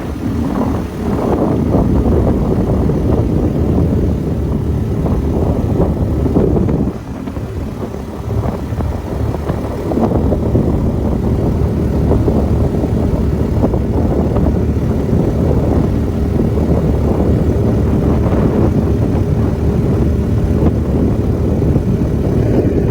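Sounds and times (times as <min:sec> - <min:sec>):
boat engine droning: 0:00.0 - 0:22.9.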